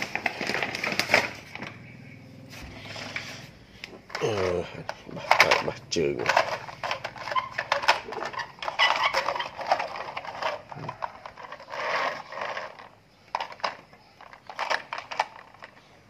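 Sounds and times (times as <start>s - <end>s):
plastic wheels scraping: 0.0s - 1.8s, 2.6s - 16.0s
plastic toy trucks clattering: 0.0s - 1.9s, 2.8s - 16.0s.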